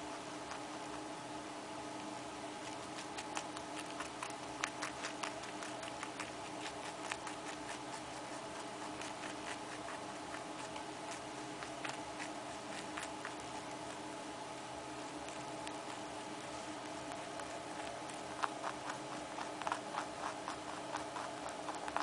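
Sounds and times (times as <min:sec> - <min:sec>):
rabbit crunching carrot: 0:00.0 - 0:22.0
steady low hum: 0:00.0 - 0:22.0.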